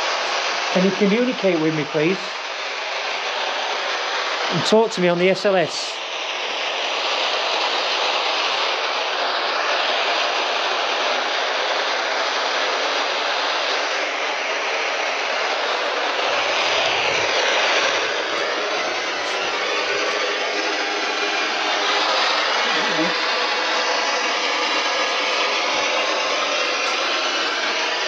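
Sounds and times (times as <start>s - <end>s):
static hiss: 0.0s - 28.0s.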